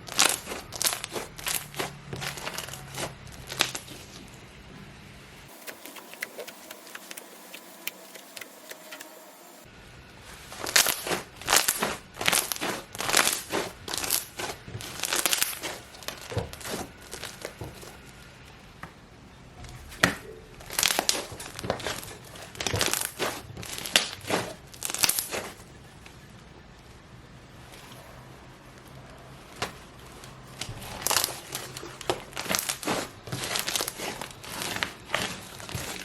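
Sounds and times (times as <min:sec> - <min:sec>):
slime crunchy squishes: 0:00.0 - 0:04.5, 0:10.0 - 0:18.8, 0:19.6 - 0:36.0.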